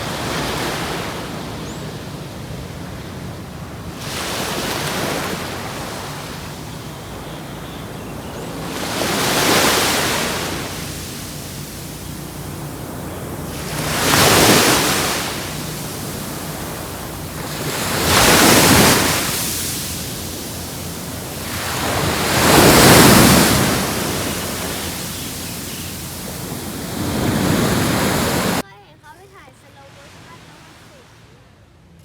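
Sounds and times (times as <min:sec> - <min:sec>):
sea waves breaking on beach: 0:00.0 - 0:31.5.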